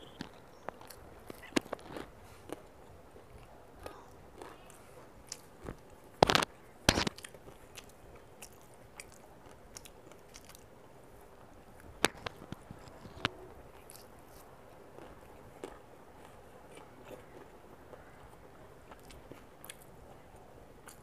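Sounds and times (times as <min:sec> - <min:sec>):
crunchy food being chewed: 0:00.0 - 0:10.7, 0:11.7 - 0:21.0.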